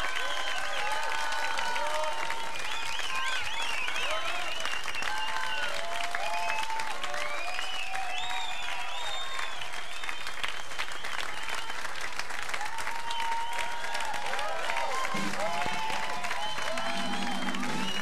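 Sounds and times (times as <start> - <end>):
audience applauding: 0.0 - 18.0
cheers and whoops: 0.0 - 18.0.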